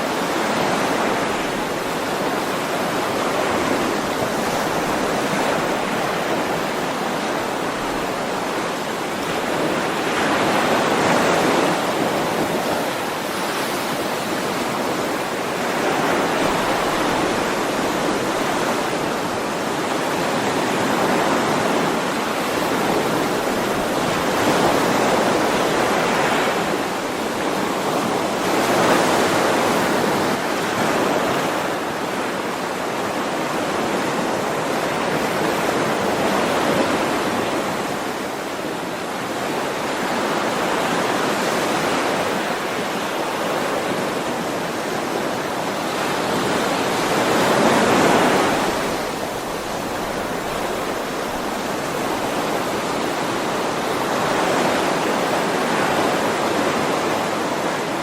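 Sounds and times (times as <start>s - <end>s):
ocean waves washing onto shore: 0.0s - 58.0s.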